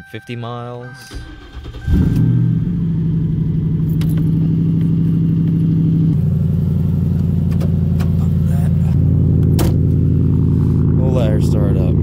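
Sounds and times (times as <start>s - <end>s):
car engine starting and idling: 0.4s - 12.0s.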